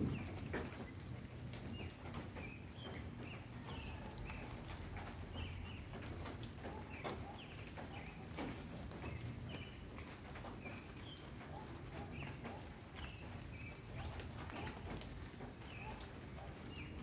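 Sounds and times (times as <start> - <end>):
low city rumble: 0.0 - 17.0
small birds chirping: 0.0 - 17.0.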